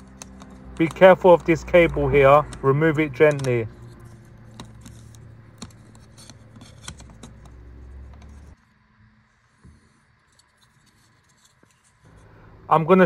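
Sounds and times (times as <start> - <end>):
plastic fan housing clicks and scrapes: 0.0 - 8.6, 10.2 - 12.3
low steady hum: 0.0 - 13.0.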